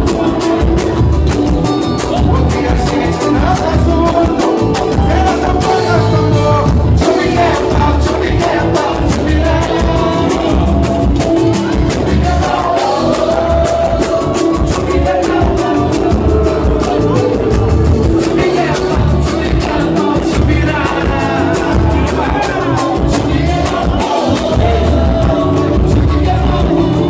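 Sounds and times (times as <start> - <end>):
hand drums: 0.0 - 27.0
men singing together: 0.0 - 27.0
surdo drum: 0.0 - 27.0.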